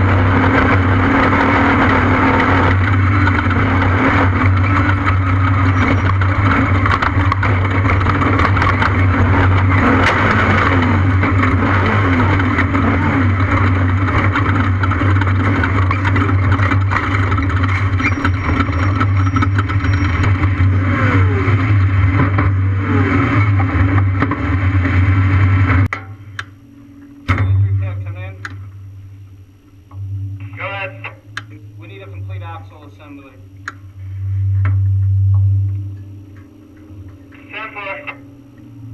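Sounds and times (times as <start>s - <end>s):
loud engine drone: 0.0s - 38.9s
vehicle rattling and clatter: 0.0s - 38.9s.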